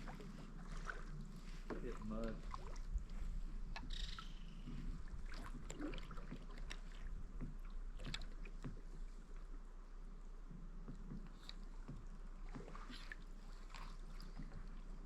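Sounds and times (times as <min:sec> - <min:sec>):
paddle splashing in water: 0:00.0 - 0:09.5, 0:10.9 - 0:15.0.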